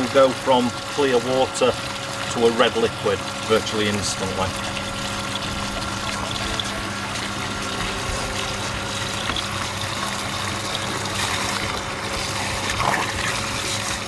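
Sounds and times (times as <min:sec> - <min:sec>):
pump humming: 0:00.0 - 0:14.0
water splashing into drain: 0:00.0 - 0:14.0.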